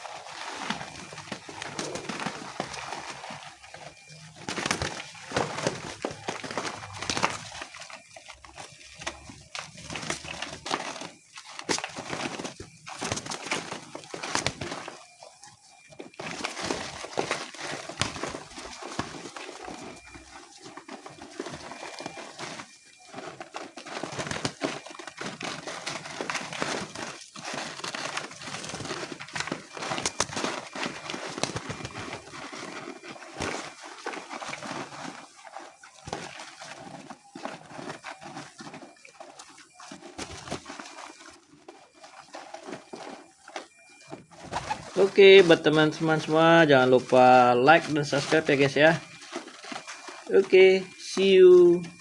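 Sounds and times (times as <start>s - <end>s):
pigeons moving about: 0.0s - 52.0s
rustling: 0.0s - 52.0s.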